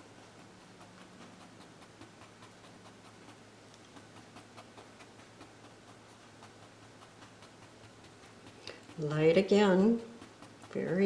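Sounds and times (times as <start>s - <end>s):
low steady hum: 0.0s - 11.0s
paintbrush ticking on canvas: 0.0s - 11.0s.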